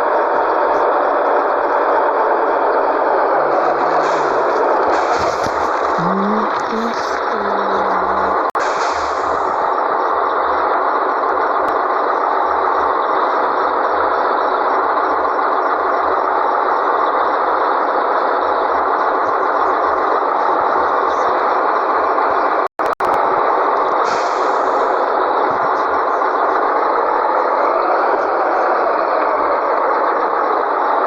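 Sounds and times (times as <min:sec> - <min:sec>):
truck engine and road noise: 0:00.0 - 0:31.0.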